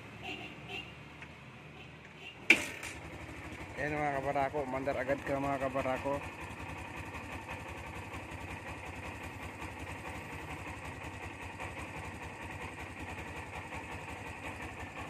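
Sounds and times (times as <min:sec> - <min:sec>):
motorcycle engine idling: 0:02.4 - 0:15.0.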